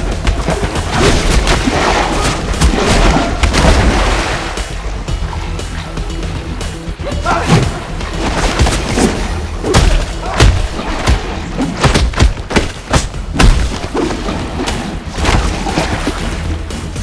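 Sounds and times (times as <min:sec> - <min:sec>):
punch and kick impacts: 0:00.0 - 0:04.8, 0:07.2 - 0:16.5.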